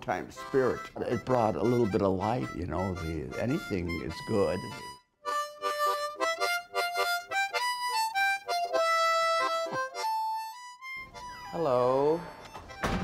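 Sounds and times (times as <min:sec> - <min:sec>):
harmonica melody: 0:00.0 - 0:13.0.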